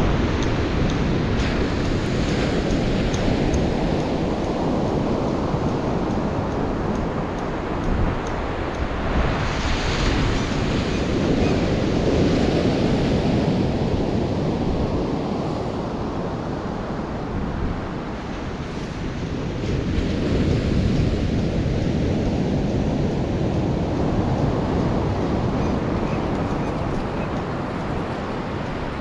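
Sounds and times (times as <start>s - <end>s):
ocean surf breaking: 0.0s - 29.0s
wind buffeting microphone: 0.0s - 29.0s.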